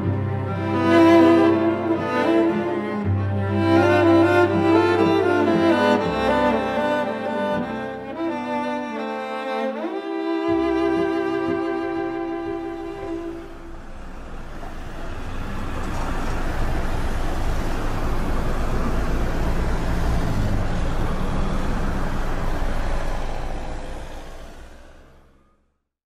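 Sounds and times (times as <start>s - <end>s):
passing traffic rumble: 0.0s - 25.8s.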